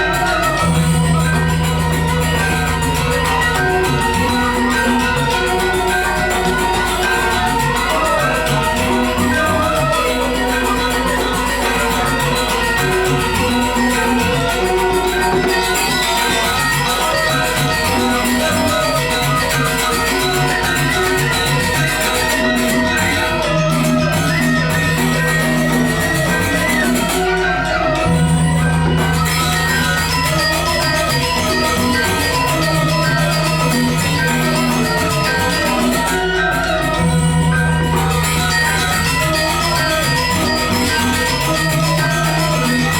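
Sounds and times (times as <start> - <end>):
gamelan music: 0.0 - 42.9.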